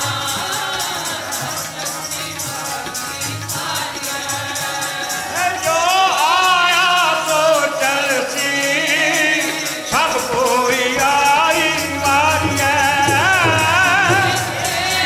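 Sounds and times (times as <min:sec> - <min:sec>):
harmonium: 0:00.0 - 0:15.0
jingling tongs beat: 0:00.0 - 0:15.0
person singing devotional song: 0:00.0 - 0:15.0.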